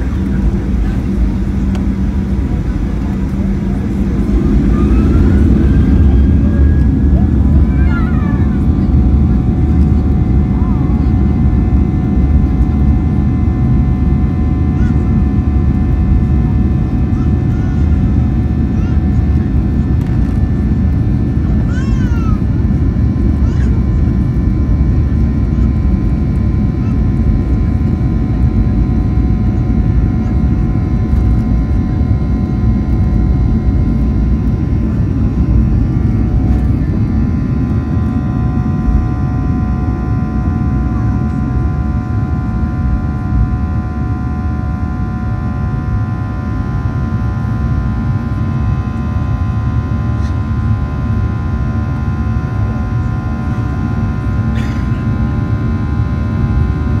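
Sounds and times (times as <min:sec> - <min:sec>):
high engine whine: 0:00.0 - 0:57.0
jet engine rumble: 0:00.0 - 0:57.0.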